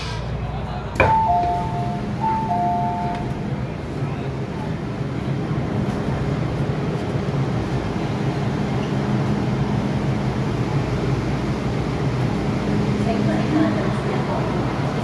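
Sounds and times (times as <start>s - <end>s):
underground train hum and rumble: 0.0s - 15.0s.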